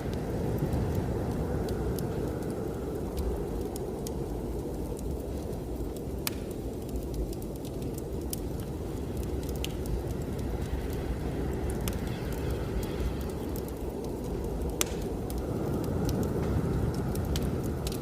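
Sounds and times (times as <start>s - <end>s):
blizzard wind rushing: 0.0s - 18.0s
wood fire crackling in a fireplace: 0.0s - 18.0s.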